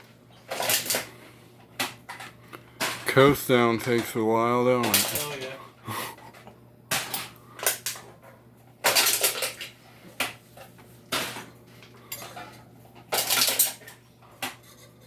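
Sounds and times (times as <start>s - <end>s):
ceiling fan clanking and rattling: 0.0s - 15.0s
low fan hum: 0.0s - 15.0s.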